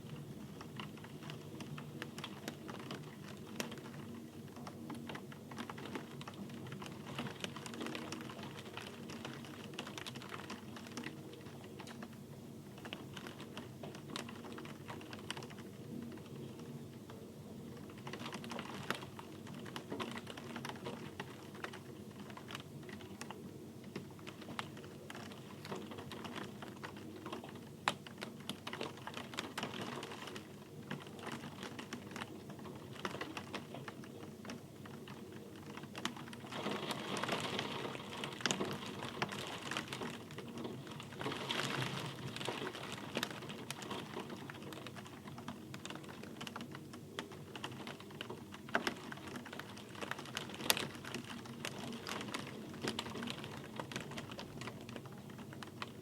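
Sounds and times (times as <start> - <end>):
rain drops ticking and pattering: 0.0 - 56.0.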